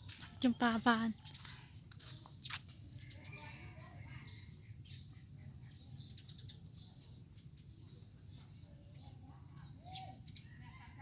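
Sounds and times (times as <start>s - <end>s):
insects: 0.0s - 11.0s.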